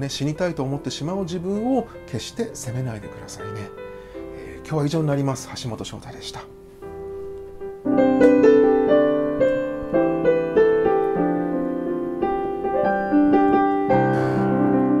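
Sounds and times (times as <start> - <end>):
electronic keyboard in piano voice: 0.0 - 15.0.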